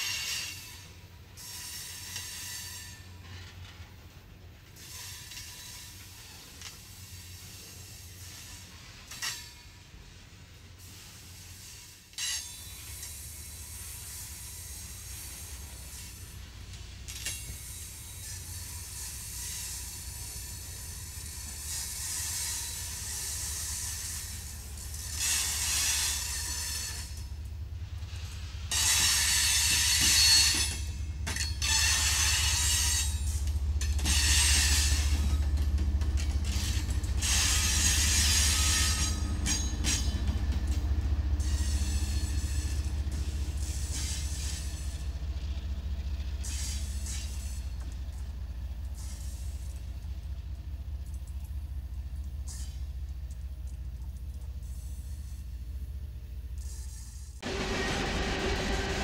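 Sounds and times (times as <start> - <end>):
low diesel locomotive hum: 0.0 - 59.0
steel wheels screeching on rails: 0.0 - 59.0
train wheels clicking over rail joints: 0.0 - 59.0.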